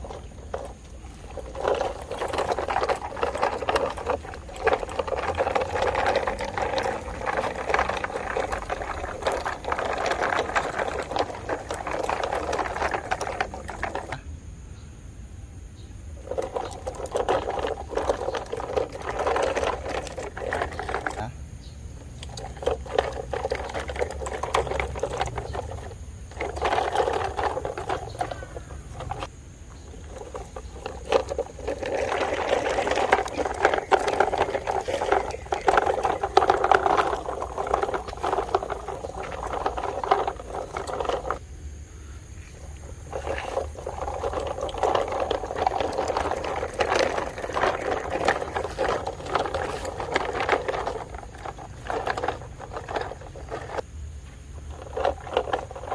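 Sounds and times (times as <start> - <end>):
toy excavator motors and gears: 0.0 - 14.2, 15.8 - 41.5, 42.1 - 55.9.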